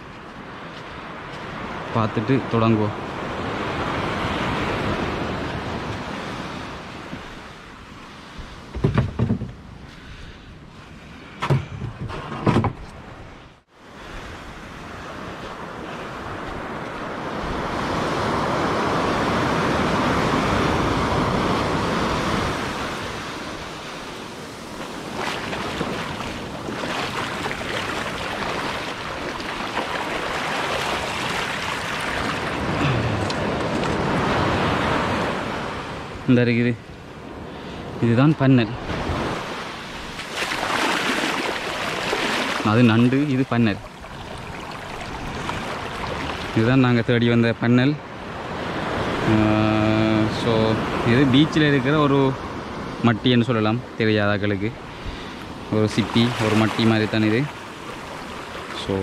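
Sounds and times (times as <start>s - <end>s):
waves washing onto beach: 0.0s - 11.5s, 13.2s - 59.0s.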